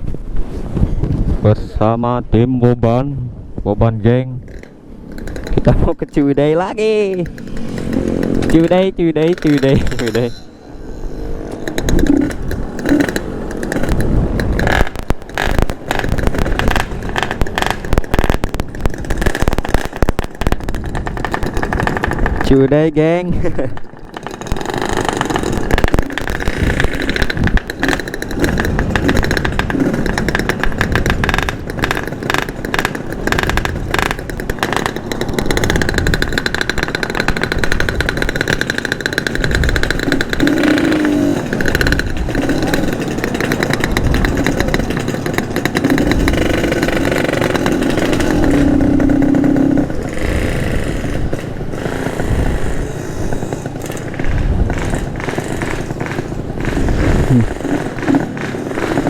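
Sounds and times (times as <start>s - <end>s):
two-stroke motorcycle engine: 4.4s - 59.0s.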